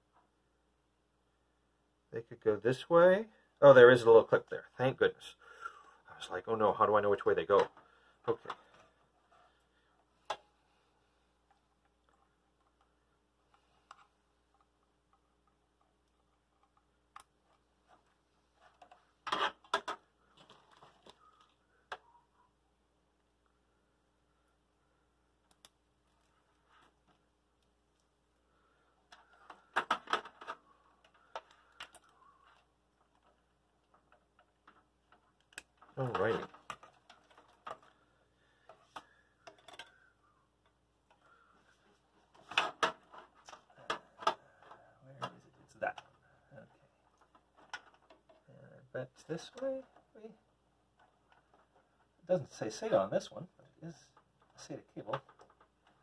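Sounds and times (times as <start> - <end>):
cables rustling and scraping: 5.8 - 22.6, 23.4 - 56.0.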